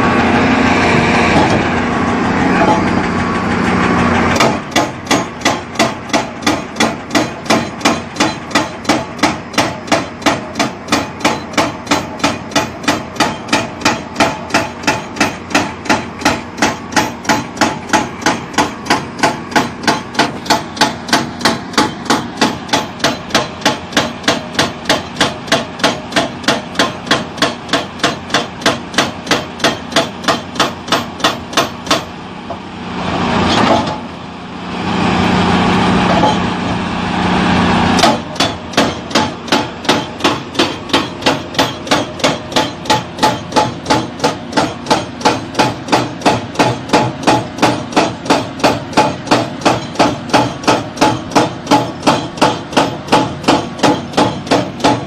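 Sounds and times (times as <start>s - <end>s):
hydraulic rock breaker hammering rock: 0.0s - 32.7s, 33.4s - 34.2s, 36.0s - 36.6s, 37.9s - 55.0s
excavator engine running: 0.0s - 55.0s.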